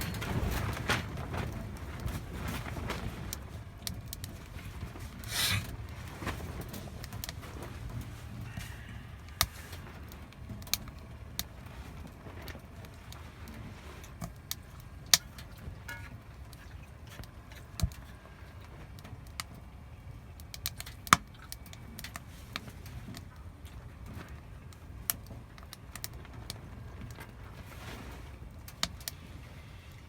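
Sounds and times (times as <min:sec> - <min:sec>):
firewood crackling and popping: 0:00.0 - 0:29.5
low steady rumble: 0:00.0 - 0:30.0.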